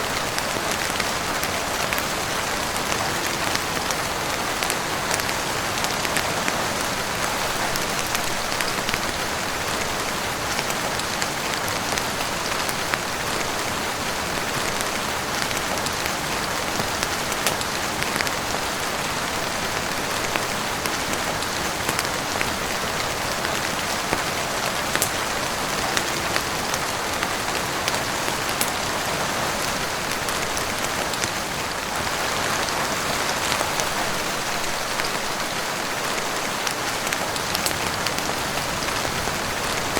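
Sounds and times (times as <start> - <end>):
heavy rain on roof and windows: 0.0 - 39.9.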